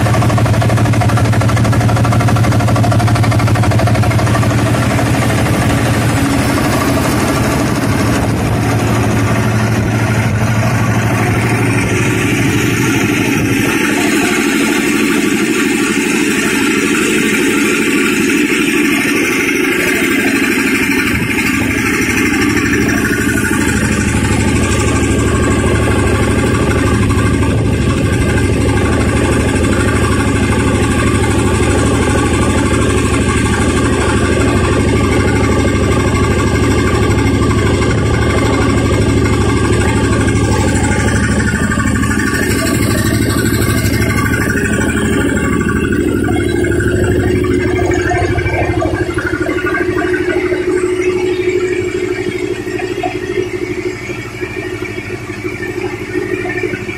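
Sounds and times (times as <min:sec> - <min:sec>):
air compressor humming: 0:00.0 - 0:56.9.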